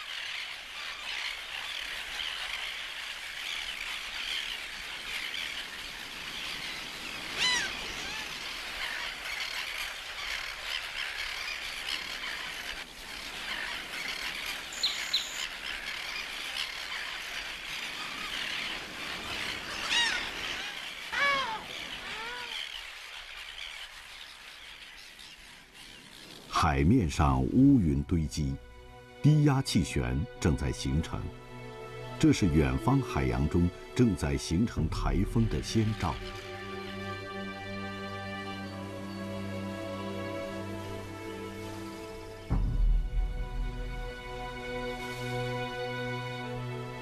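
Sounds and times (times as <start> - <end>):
terns calling: 0.0 - 42.7.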